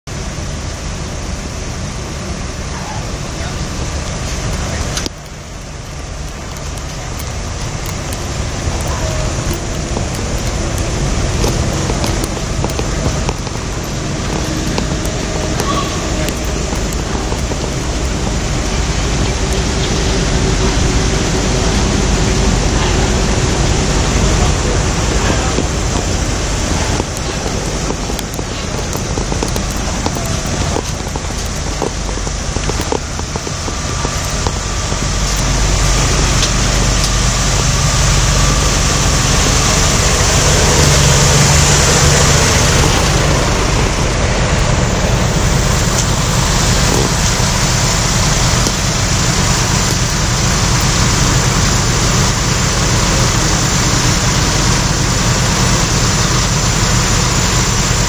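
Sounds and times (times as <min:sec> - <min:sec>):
diesel engines idling: 0:00.1 - 0:58.0.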